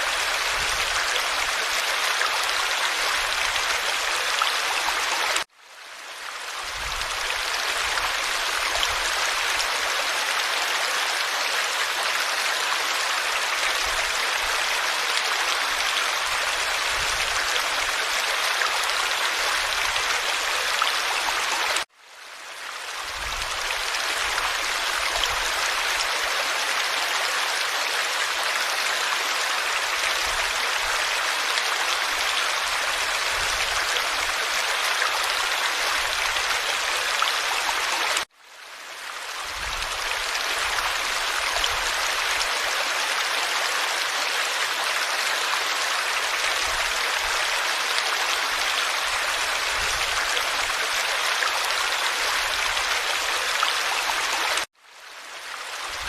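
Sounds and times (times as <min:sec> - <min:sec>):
stream flowing and babbling: 0:00.0 - 0:56.0.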